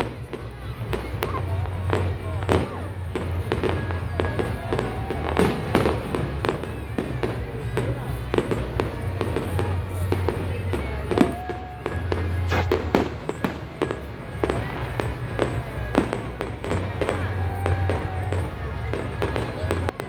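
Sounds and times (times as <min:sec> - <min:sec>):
fireworks bangs and crackles: 0:00.0 - 0:20.0
music: 0:00.0 - 0:20.0.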